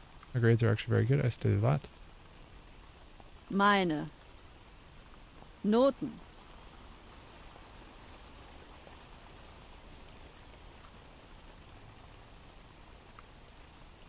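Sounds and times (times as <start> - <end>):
rain: 0.0 - 14.0.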